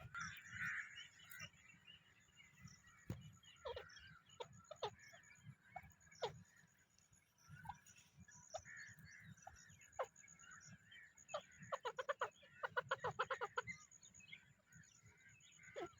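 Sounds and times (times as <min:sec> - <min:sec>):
birds chattering: 0:00.0 - 0:15.9
partridges calling: 0:00.0 - 0:15.9.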